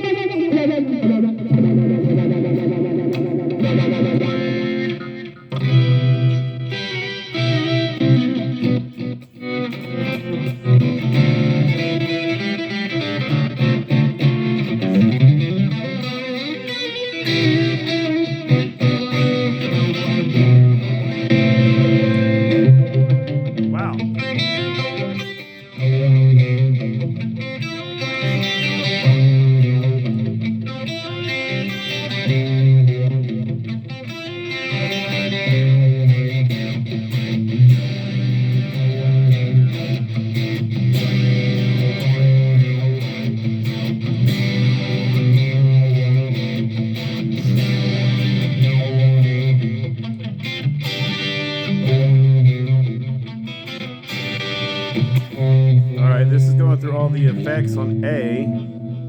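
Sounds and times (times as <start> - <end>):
electric guitar playing: 0.0 - 59.0.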